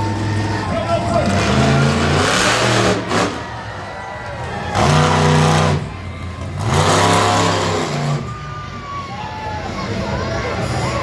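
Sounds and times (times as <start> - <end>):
truck engine revving and idling: 0.0 - 11.0.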